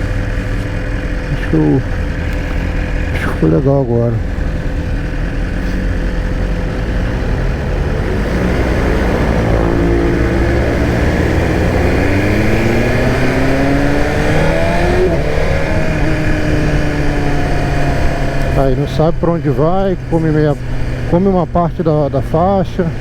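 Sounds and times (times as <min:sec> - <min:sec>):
motorcycle engine accelerating: 0:00.0 - 0:23.0
wind and road rush: 0:00.0 - 0:23.0.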